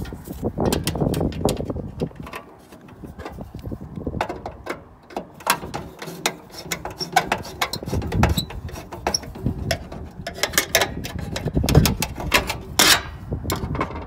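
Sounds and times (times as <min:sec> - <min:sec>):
screwdriver metal clicks and scrapes: 0:00.0 - 0:13.7.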